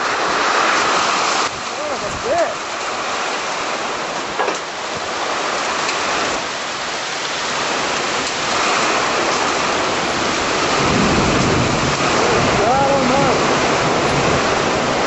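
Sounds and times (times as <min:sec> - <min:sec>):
heavy rain pouring: 0:00.0 - 0:15.0
strong wind thrashing trees: 0:00.0 - 0:15.0.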